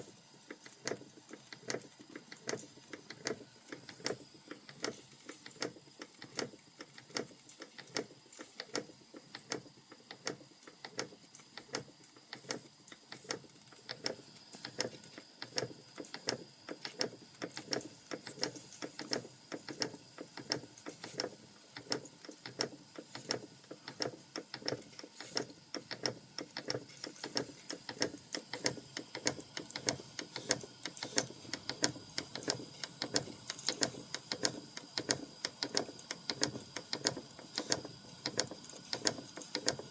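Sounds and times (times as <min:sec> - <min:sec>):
steam engine mechanical clicks: 0:00.5 - 0:39.9.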